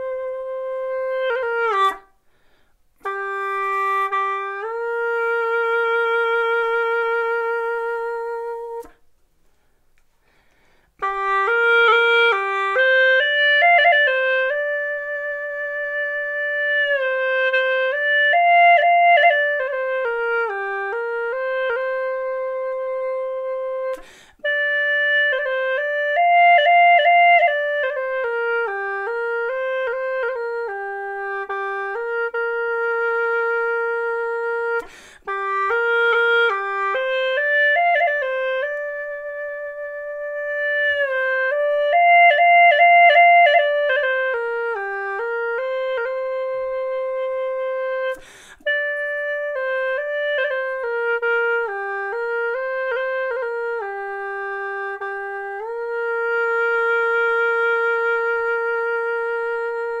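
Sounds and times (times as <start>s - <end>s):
gourd flute melody: 0.0s - 60.0s.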